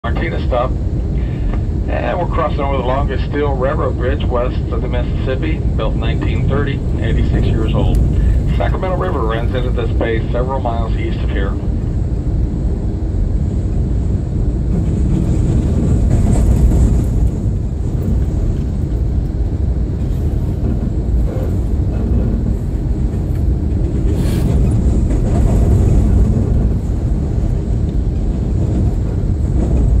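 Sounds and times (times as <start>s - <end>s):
train rumbling over bridge: 0.0s - 30.0s.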